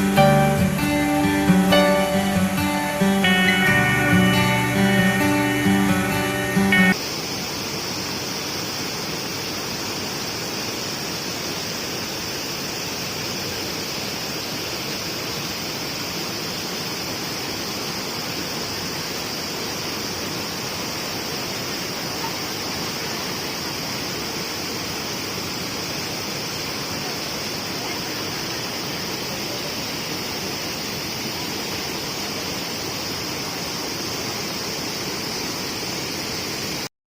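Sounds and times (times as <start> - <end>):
high-pitched hiss: 0.0 - 36.9
waterfall rushing: 0.0 - 36.9.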